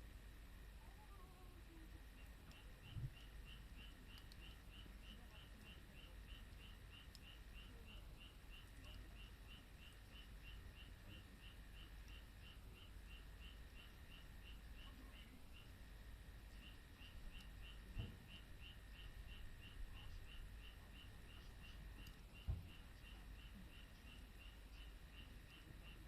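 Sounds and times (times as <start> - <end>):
small animal chirping: 2.0 - 26.0.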